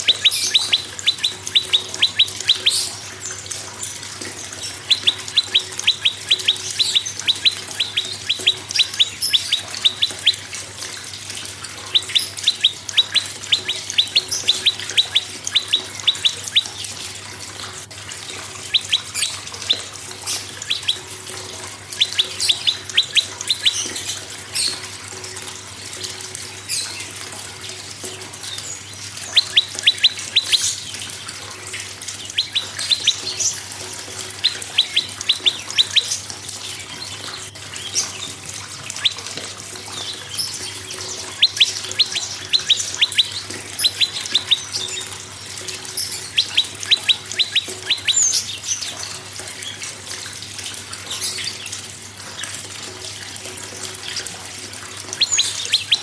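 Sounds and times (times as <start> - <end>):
bird song with sharp high notes: 0.0 - 17.6, 18.3 - 25.3, 26.0 - 50.4, 55.0 - 56.0
thin high bird chirps: 0.0 - 56.0.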